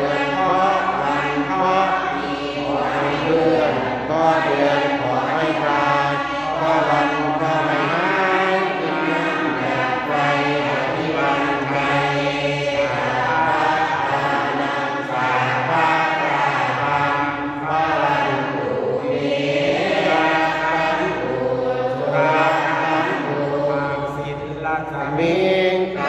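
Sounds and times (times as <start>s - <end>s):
man chanting into a microphone: 0.0s - 18.6s, 19.9s - 26.0s
congregation chanting: 0.0s - 26.0s.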